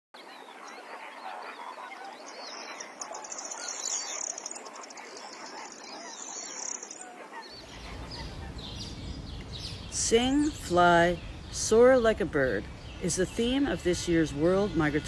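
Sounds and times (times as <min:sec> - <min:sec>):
birds chirping and calling: 0:00.2 - 0:15.0.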